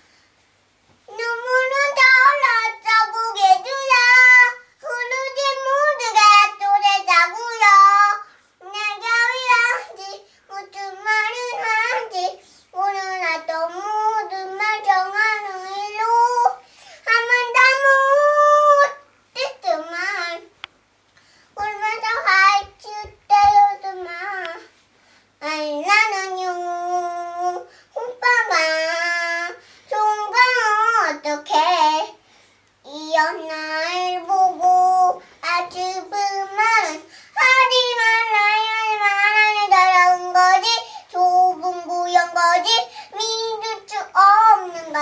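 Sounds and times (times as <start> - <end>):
girl singing unaccompanied: 0.9 - 20.7, 21.5 - 45.0.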